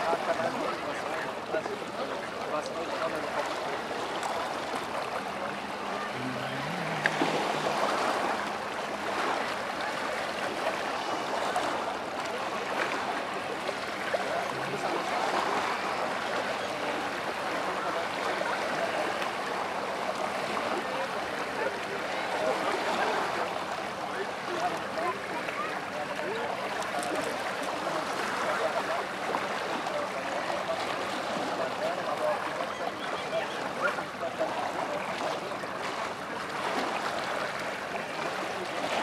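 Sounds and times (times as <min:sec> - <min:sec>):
lake waves lapping on shore: 0:00.0 - 0:39.0.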